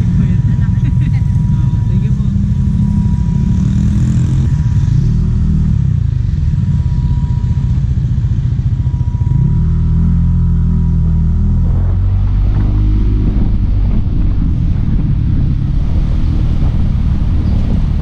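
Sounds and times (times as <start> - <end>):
motor scooter engine: 0.0 - 18.0.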